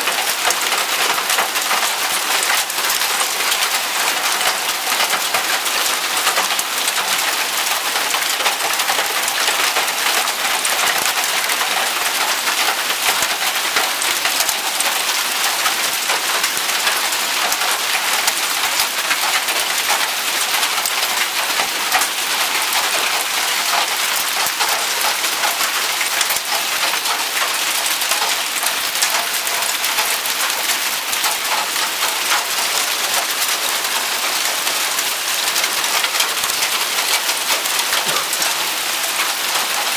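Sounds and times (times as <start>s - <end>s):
heavy rain on paving: 0.0s - 39.9s
rain tapping on car: 0.1s - 39.9s.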